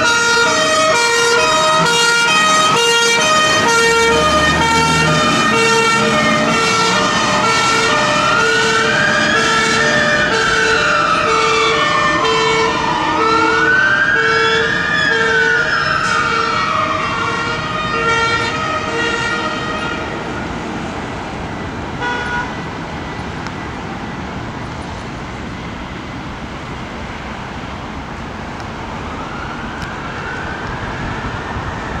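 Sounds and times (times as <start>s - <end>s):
fire engine two-tone horns: 0.0s - 23.2s, 29.3s - 32.0s
road noise: 0.0s - 32.0s
wailing siren: 0.0s - 32.0s.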